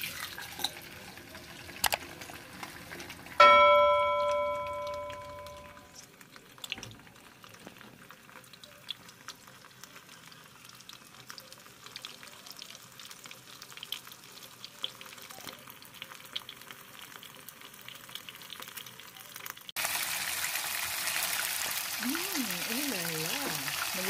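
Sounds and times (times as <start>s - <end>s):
fish frying in oil: 0.0s - 24.0s.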